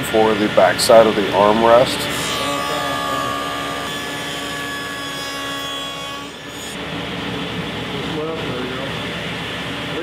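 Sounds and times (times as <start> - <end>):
table saw whining: 0.0 - 8.1.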